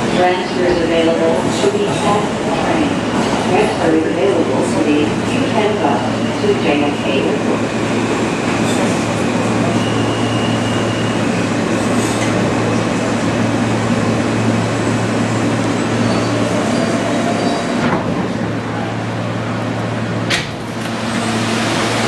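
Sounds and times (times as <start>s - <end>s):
subway train wheels rumbling: 0.0s - 22.0s.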